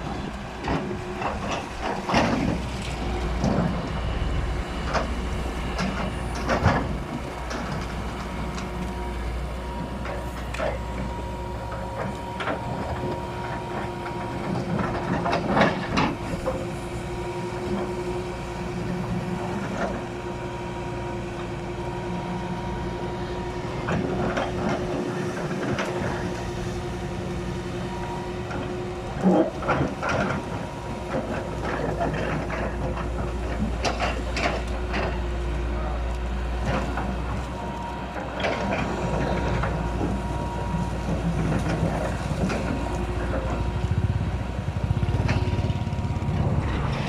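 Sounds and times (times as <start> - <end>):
excavator diesel engine rumbling: 0.0 - 47.0.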